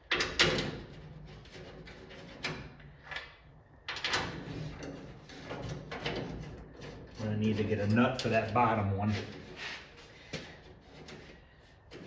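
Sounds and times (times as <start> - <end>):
metal scraping and rattling: 0.2 - 3.0, 4.0 - 12.0.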